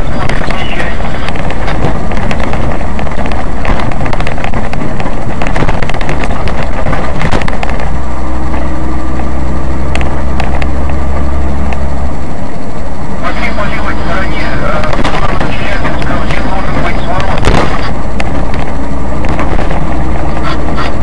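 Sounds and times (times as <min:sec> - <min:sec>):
car engine and road noise: 0:00.0 - 0:21.0
deep steady drone: 0:00.0 - 0:21.0.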